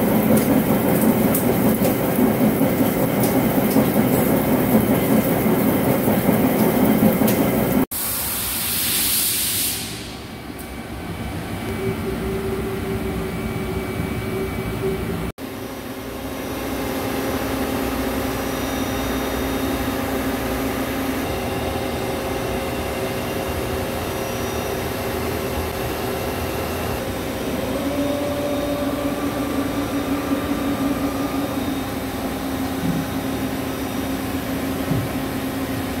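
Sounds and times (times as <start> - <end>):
machine-shop whirring hum: 0.0 - 36.0.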